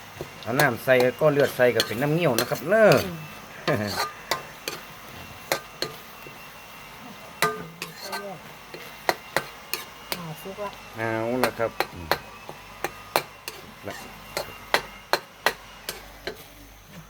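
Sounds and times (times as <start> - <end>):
low sizzle: 0.0 - 17.0
spoon scraping cooking pot: 0.2 - 6.4, 7.4 - 10.2, 11.4 - 16.5.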